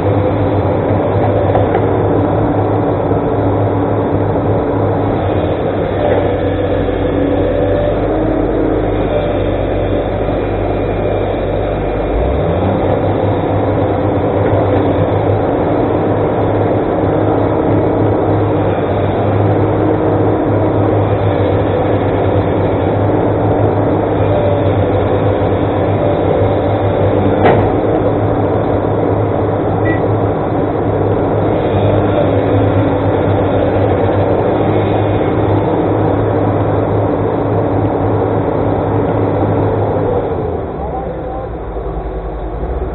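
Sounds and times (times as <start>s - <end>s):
excavator diesel engine running: 0.0s - 42.9s
low drone: 0.0s - 42.9s.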